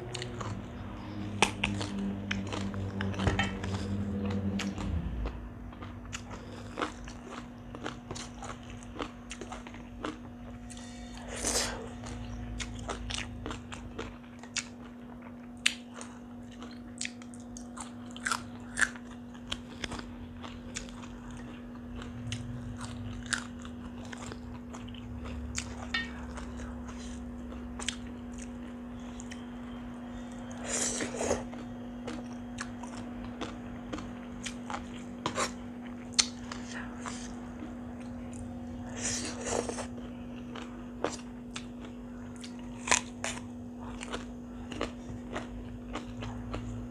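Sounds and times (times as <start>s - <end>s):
low electrical hum: 0.0s - 46.9s.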